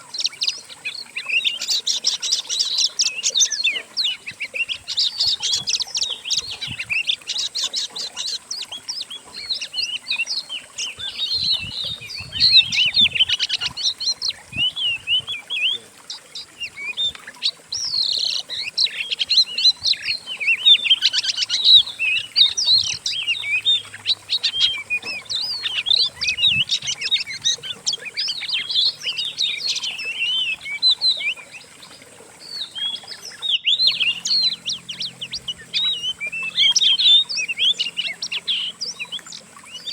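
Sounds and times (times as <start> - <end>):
songbird chatter: 0.0 - 39.9.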